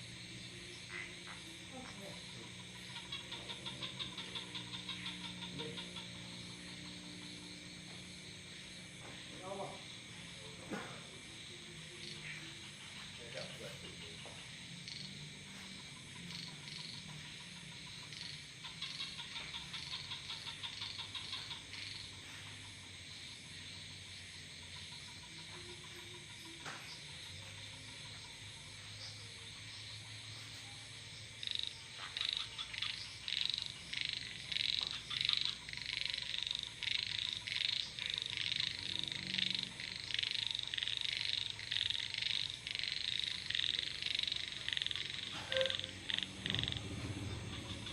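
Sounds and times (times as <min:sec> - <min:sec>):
crickets trilling: 0:00.0 - 0:47.9
frogs calling: 0:00.0 - 0:47.9.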